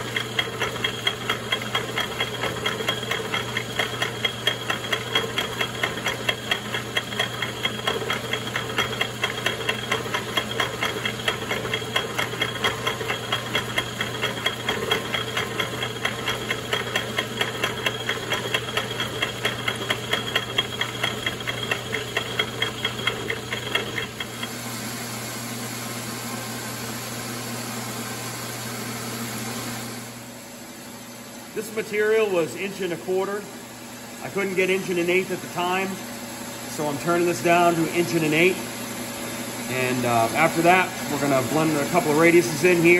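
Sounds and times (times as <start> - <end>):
lathe running hum: 0.0 - 42.9.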